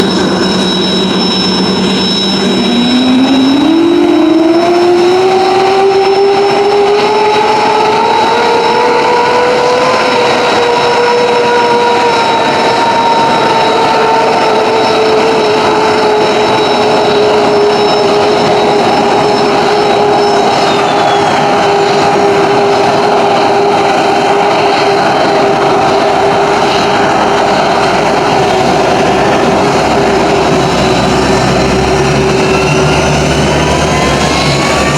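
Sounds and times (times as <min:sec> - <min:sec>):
thin high tone: 0:00.0 - 0:34.6
jet engine spooling up: 0:00.0 - 0:34.9
jet noise rush: 0:00.0 - 0:34.9.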